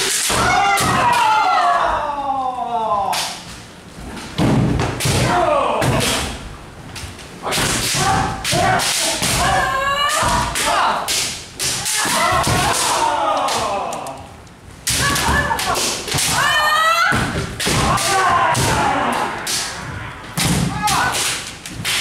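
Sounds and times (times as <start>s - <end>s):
people shouting: 0.0s - 3.4s, 5.0s - 6.4s, 7.4s - 21.4s.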